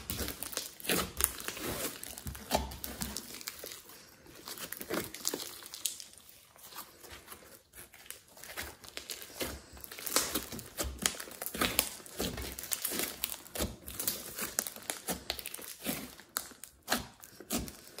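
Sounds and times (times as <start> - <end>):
slime sticky crackling: 0.0 - 18.0.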